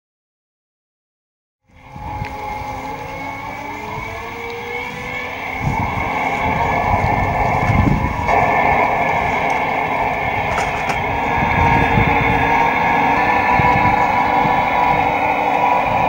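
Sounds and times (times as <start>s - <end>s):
model boat motor whining: 1.7s - 16.0s
wind on microphone: 1.7s - 16.0s.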